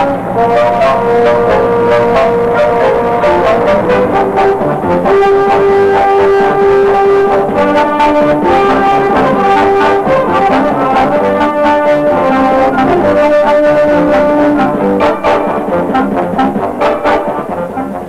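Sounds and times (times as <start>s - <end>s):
brass background music: 0.0s - 18.0s.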